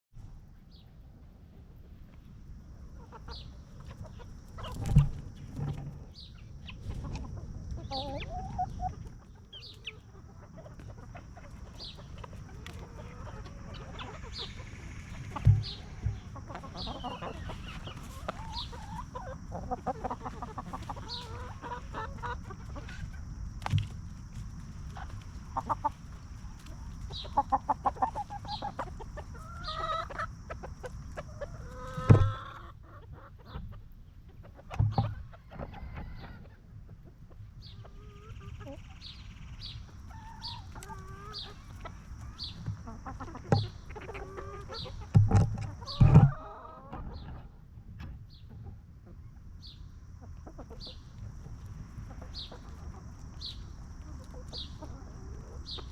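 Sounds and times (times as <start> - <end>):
hens clucking: 0.8 - 55.9.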